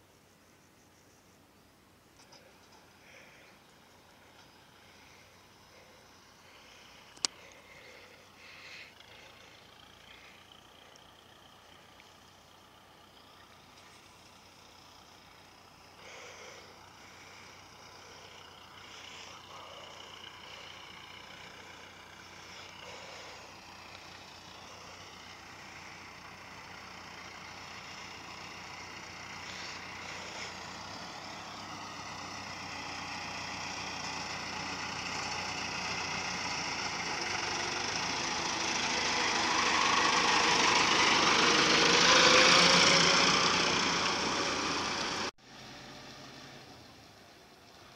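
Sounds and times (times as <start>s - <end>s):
tractor diesel engine running: 1.4s - 47.9s.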